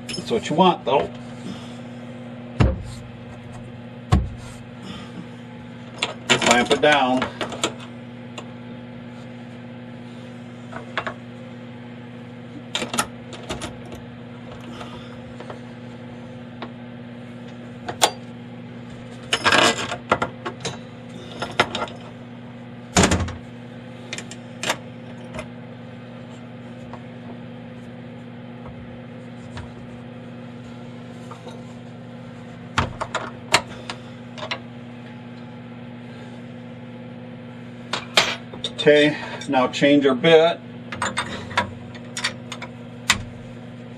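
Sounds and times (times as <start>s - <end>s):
steady electrical hum: 0.0s - 43.9s.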